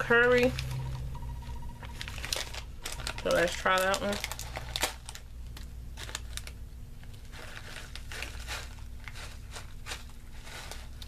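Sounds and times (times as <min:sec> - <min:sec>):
packet crinkling: 0:00.0 - 0:11.0.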